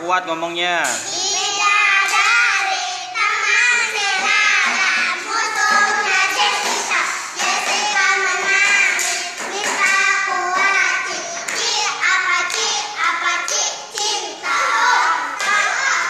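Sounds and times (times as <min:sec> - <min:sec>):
children singing a chant: 0:00.9 - 0:16.0.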